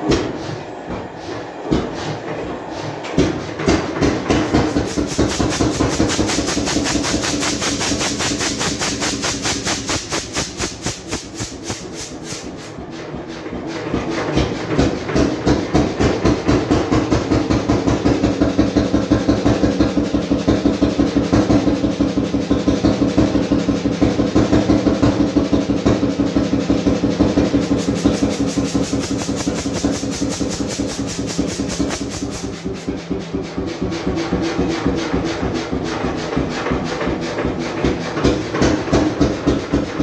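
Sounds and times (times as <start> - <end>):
single-cylinder oil engine running: 0.0 - 40.0.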